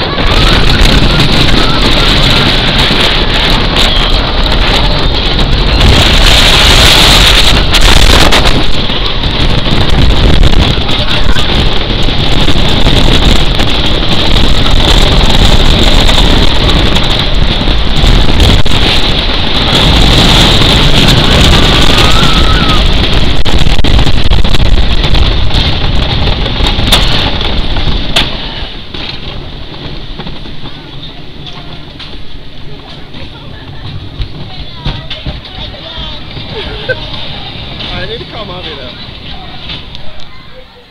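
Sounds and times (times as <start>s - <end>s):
roller coaster rumbling on track: 0.0s - 40.9s
wind buffeting microphone: 0.0s - 40.9s.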